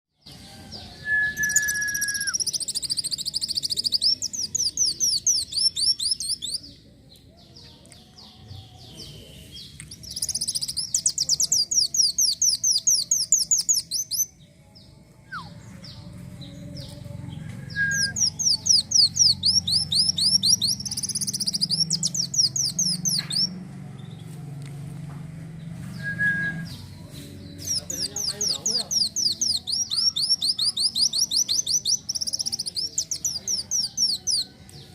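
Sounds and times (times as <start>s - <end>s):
sunbird singing rapid high chirps: 0.2s - 6.9s, 8.8s - 14.5s, 15.3s - 24.4s, 25.8s - 34.6s.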